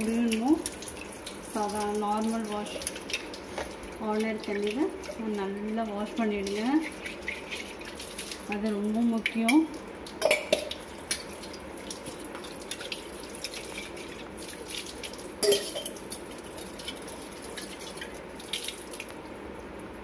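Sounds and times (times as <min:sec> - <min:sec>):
tap water running over metal pot: 0:00.0 - 0:20.0.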